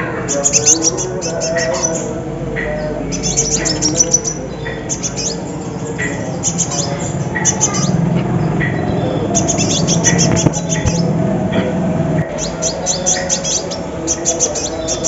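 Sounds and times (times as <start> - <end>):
steady low hum: 0.0 - 15.0
sunbirds twittering: 0.0 - 15.0.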